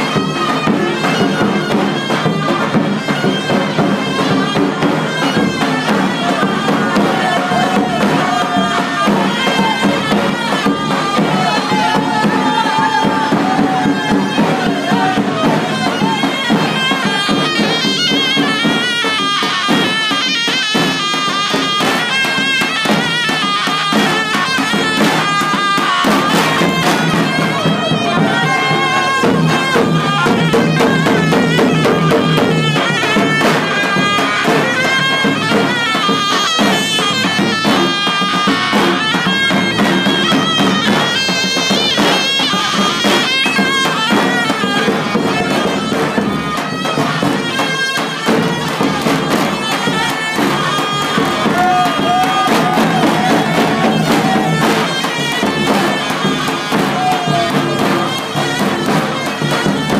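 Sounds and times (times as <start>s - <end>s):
quick drum beat: 0.0s - 59.9s.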